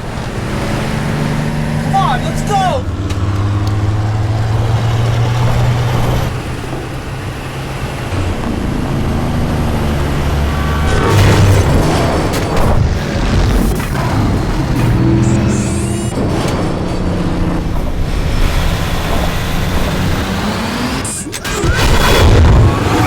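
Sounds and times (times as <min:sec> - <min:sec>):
vehicle engines rumbling: 0:00.0 - 0:23.0
crashing noise: 0:04.5 - 0:23.0.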